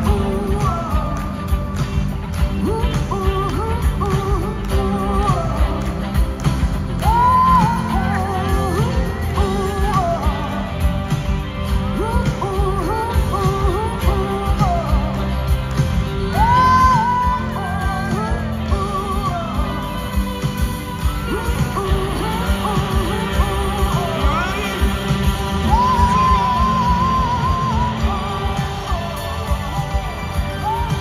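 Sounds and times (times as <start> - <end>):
live rock band playing: 0.0 - 31.0
singer with vibrato: 0.0 - 31.0.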